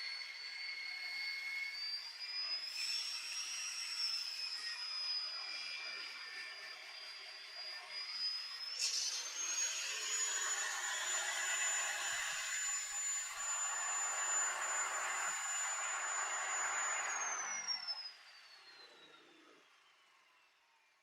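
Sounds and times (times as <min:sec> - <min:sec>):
saw motor whining: 0:00.0 - 0:20.8.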